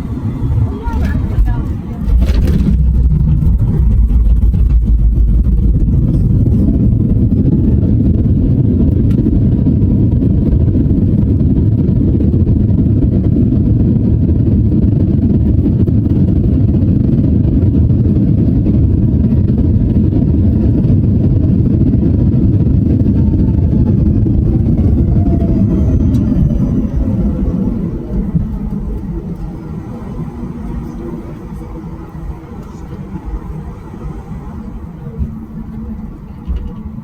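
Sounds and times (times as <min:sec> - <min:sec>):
airplane cabin rumble: 0:00.0 - 0:37.0.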